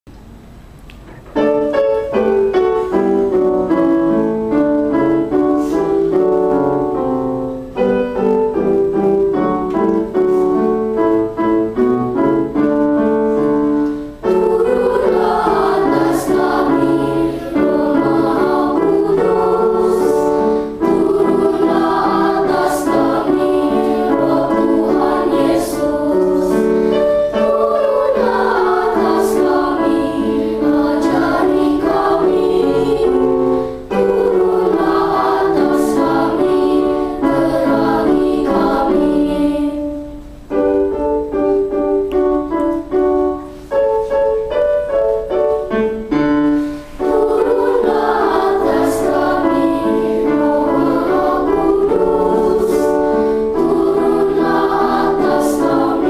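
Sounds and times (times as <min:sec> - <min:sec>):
keyboard accompaniment: 0:00.3 - 0:56.0
children's choir singing a hymn: 0:01.4 - 0:56.0.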